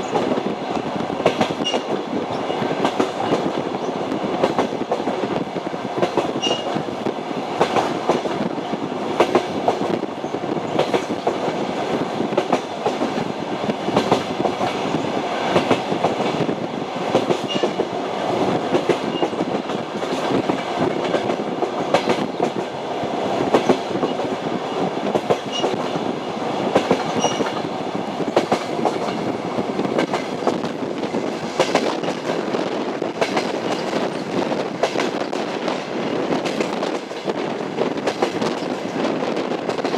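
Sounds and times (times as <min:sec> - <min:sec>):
train rolling rumble: 0:00.0 - 0:39.9
train wheels clattering: 0:00.0 - 0:39.9.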